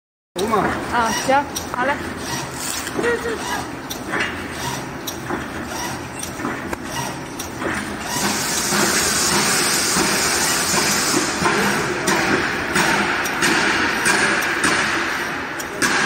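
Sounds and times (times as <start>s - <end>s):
netting machine clatter and hiss: 0.4s - 16.0s.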